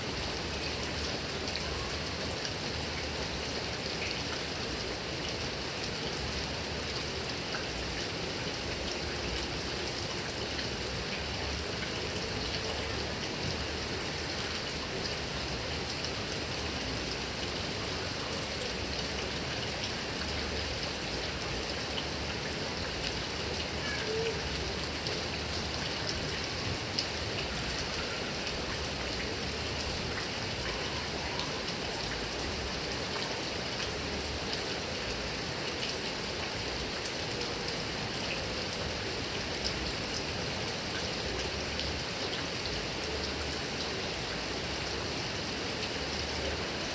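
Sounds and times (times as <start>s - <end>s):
heavy rain on grass and trees: 0.0s - 46.9s.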